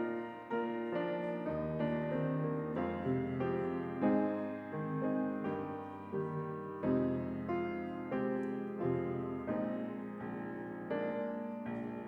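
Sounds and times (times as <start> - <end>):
slow gentle piano chords: 0.0 - 12.0.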